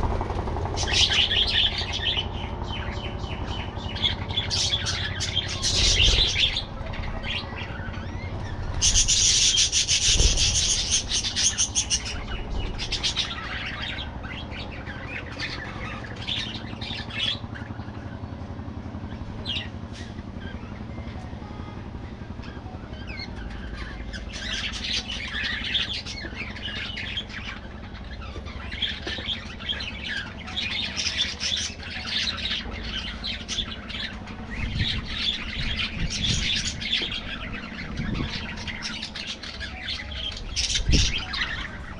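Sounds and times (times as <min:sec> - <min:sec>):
budgerigars chirping and chattering: 0:00.0 - 0:41.9
low hum: 0:00.0 - 0:41.9.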